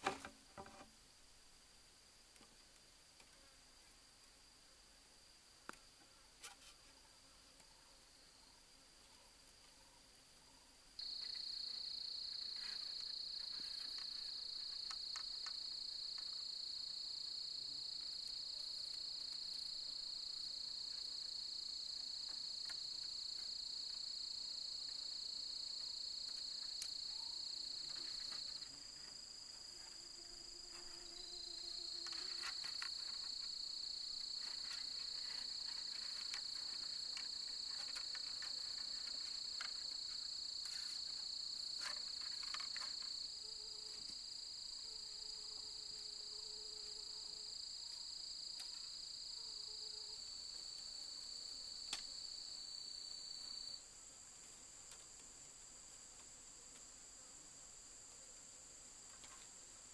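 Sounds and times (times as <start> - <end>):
insect chorus: 1.5 - 59.9.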